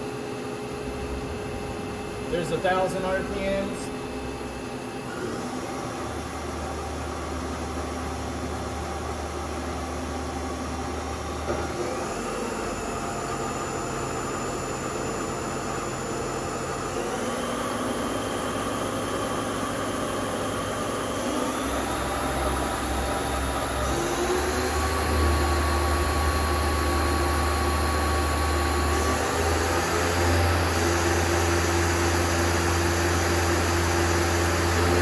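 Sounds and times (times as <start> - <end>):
lathe spindle hum and whine: 0.0 - 35.0.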